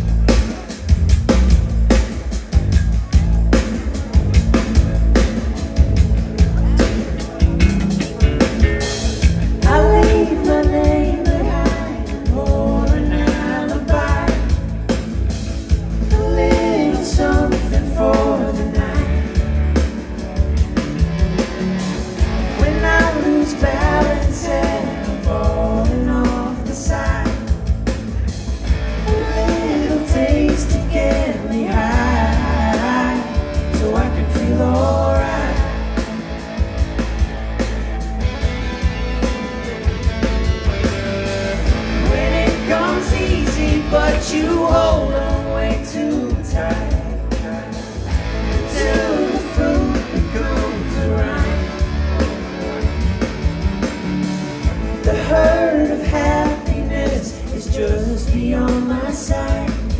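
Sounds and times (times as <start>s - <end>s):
live pop-rock band with singing: 0.0s - 59.9s.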